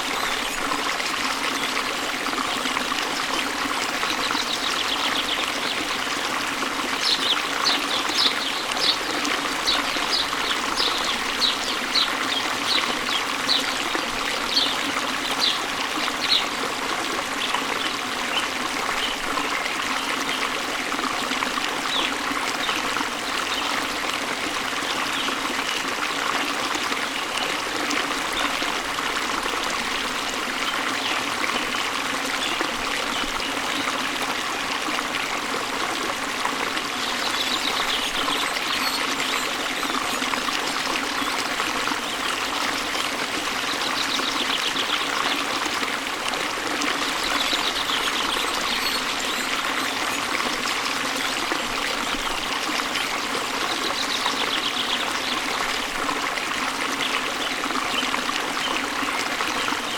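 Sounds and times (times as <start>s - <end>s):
waterfall and stream running: 0.0s - 59.9s.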